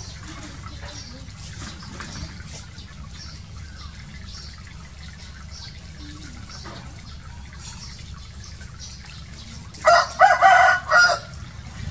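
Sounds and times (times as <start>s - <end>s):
shallow water gushing and splashing: 0.0s - 11.9s.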